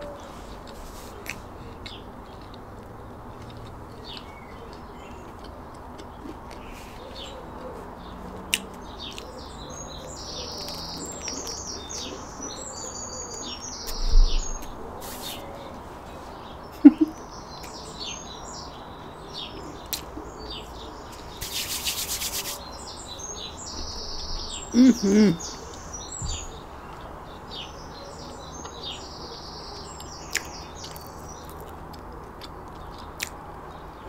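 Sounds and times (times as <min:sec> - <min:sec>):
birds chirping and singing: 0:03.4 - 0:31.6.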